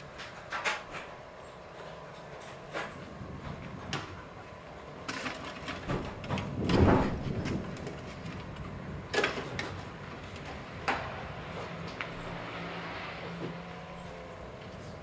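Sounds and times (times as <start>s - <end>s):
low engine-like hum: 0.0s - 15.0s
outdoor background noise: 0.0s - 15.0s.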